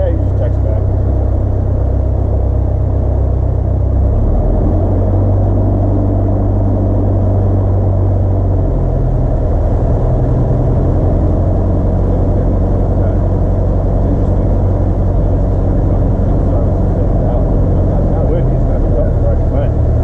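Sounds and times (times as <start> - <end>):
light aircraft engine running: 0.0 - 20.0.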